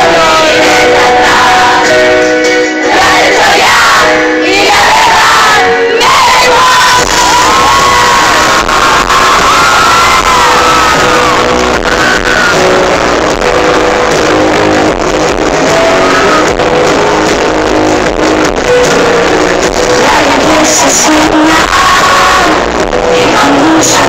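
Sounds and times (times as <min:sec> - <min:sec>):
live pop band music: 0:00.0 - 0:24.0.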